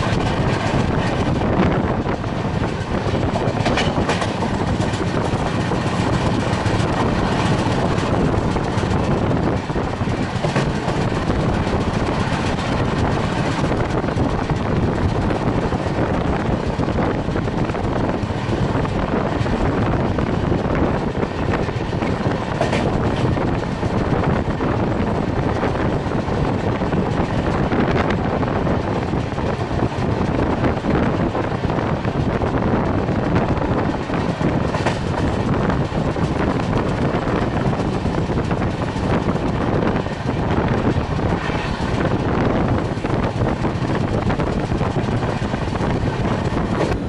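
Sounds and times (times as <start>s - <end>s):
train rolling rumble: 0.0s - 47.0s
wheels clicking over rails: 0.0s - 47.0s.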